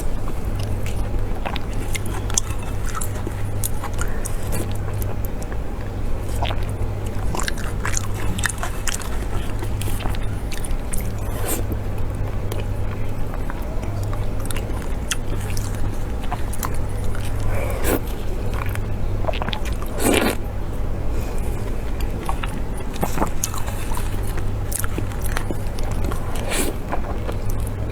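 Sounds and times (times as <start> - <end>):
chewing and biting: 0.0 - 27.9.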